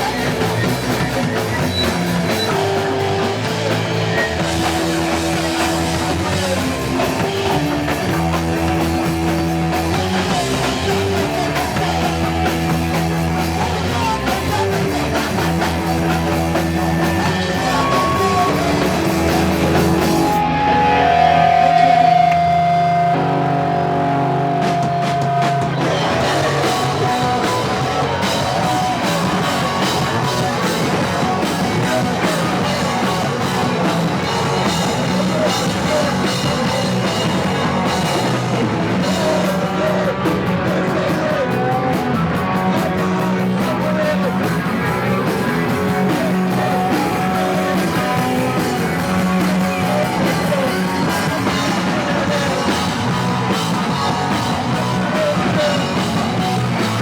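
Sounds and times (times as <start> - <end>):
bass guitar: 0.0 - 57.0
distorted electric guitar: 0.0 - 57.0
drum kit: 0.0 - 57.0
person singing: 0.0 - 57.0.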